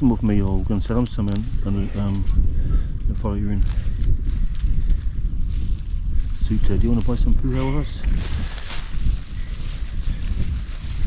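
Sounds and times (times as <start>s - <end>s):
rustling of stems being cut: 0.0s - 11.0s
wind buffeting microphone: 0.0s - 11.0s.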